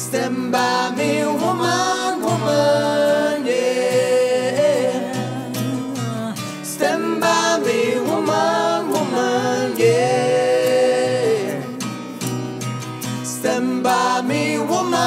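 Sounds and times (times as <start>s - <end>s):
acoustic guitar strumming: 0.0s - 15.0s
voices singing together: 0.0s - 15.0s.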